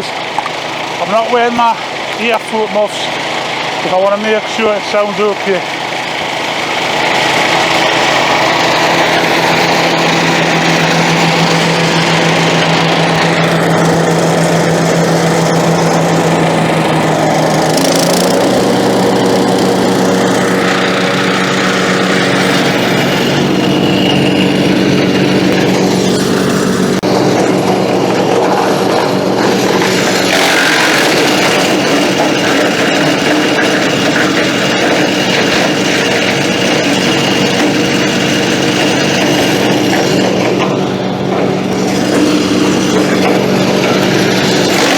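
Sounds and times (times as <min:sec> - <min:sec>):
wood chipper engine running: 0:00.0 - 0:44.9.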